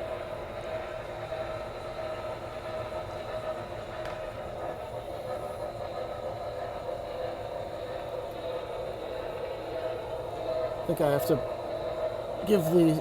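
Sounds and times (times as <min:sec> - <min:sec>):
model steam locomotive sounds: 0:00.0 - 0:13.0
model train rumbling on track: 0:00.0 - 0:13.0.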